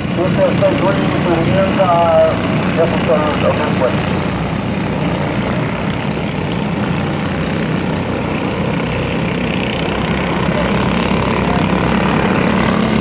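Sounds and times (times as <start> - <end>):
small race car engines droning: 0.0 - 13.0.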